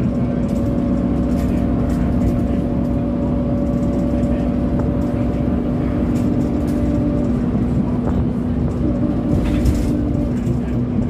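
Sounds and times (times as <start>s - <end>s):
bus engine humming: 0.0s - 11.0s
cooling fan whirring: 0.0s - 11.0s.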